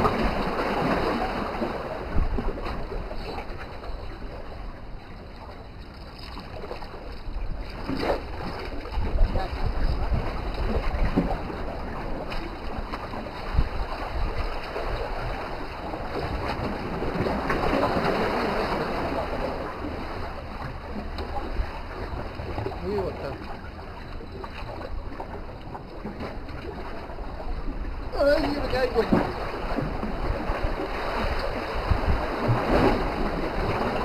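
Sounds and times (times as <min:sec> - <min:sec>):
waves on rocky shore: 0:00.0 - 0:34.0
wind on microphone: 0:00.0 - 0:34.0.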